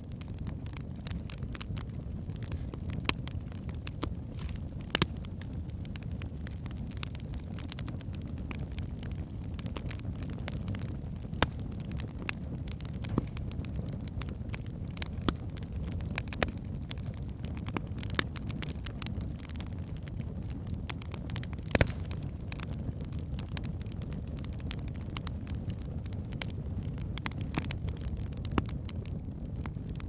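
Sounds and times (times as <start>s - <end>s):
flames rumbling: 0.0s - 30.0s
logs crackling and popping: 0.0s - 30.0s.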